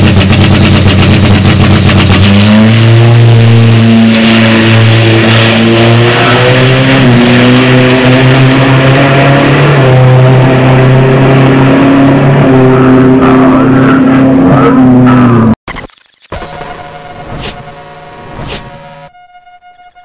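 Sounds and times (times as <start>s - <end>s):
motorcycle engine at full throttle: 0.0s - 15.6s, 16.4s - 19.1s.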